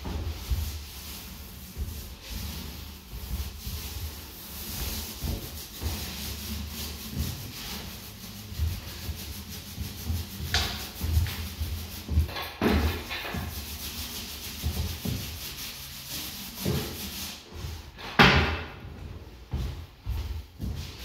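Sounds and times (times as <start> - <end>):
paint roller rubbing on wall: 0.0 - 18.0.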